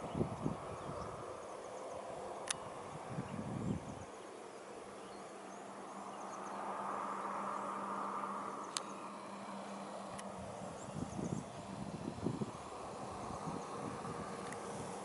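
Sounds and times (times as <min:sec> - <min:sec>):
insect buzzing: 0:00.0 - 0:15.0
low hum: 0:00.0 - 0:15.0.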